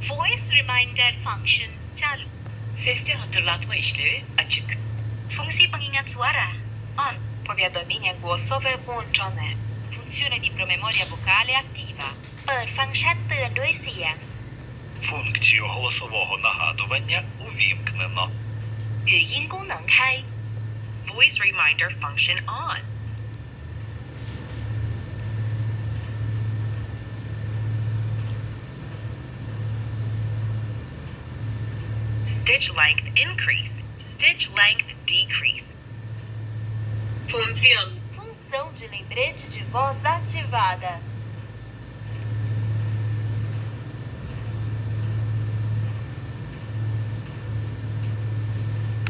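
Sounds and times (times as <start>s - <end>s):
pulsing low hum: 0.0s - 49.0s.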